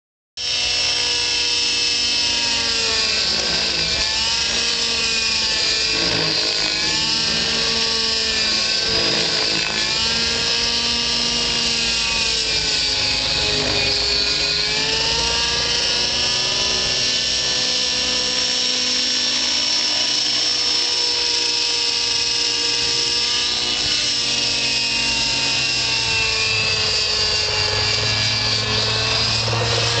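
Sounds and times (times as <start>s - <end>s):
model helicopter engine whine: 0.4s - 30.0s.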